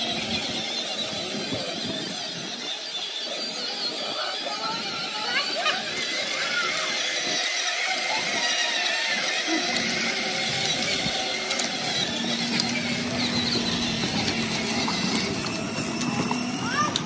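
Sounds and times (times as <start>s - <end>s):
toy electric motors whirring: 0.0s - 17.0s.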